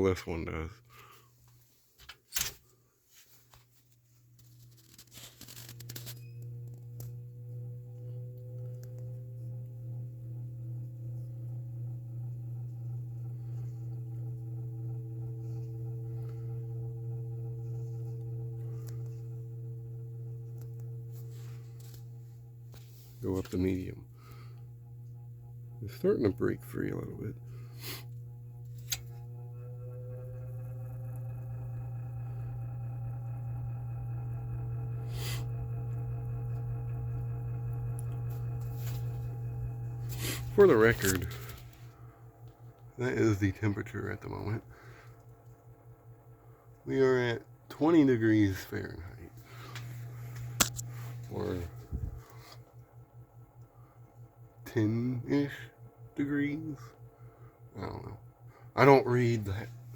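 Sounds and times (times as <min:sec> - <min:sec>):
fan motor humming: 0:04.4 - 0:59.9.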